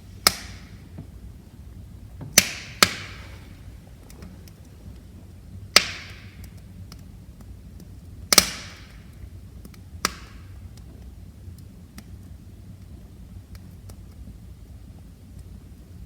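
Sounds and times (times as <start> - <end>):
fire pops with hiss: 0.0 - 16.0
low rumble of flames: 0.0 - 16.0
small fire ticks: 0.1 - 16.0.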